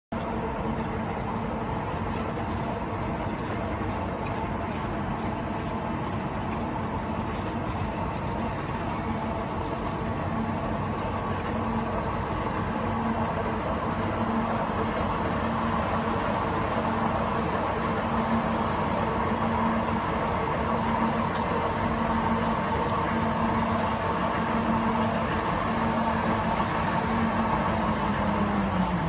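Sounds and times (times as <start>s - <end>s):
concrete floor grinder hum: 0.7s - 29.0s.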